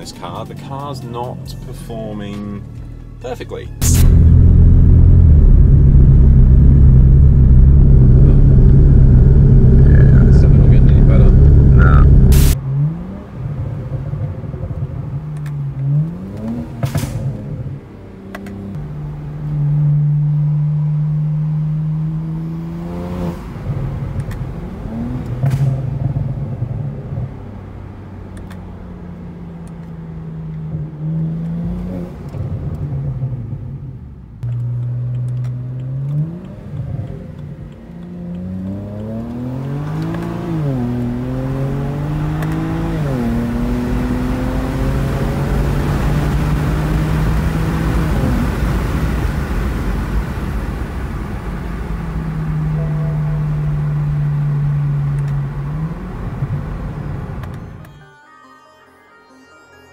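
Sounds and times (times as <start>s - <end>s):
road noise: 0.0s - 58.1s
car engine accelerating through gears: 3.8s - 57.8s.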